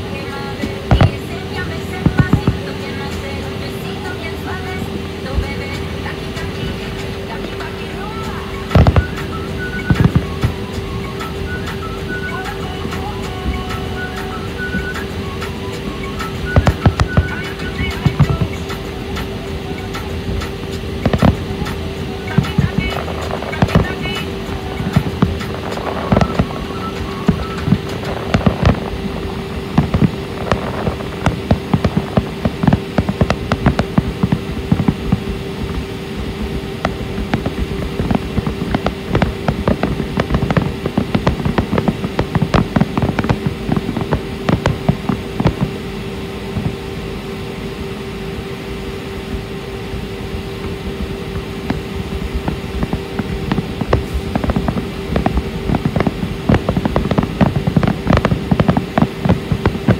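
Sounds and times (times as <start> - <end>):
fireworks bangs and crackles: 0.0 - 59.9
steady hum: 0.0 - 59.9.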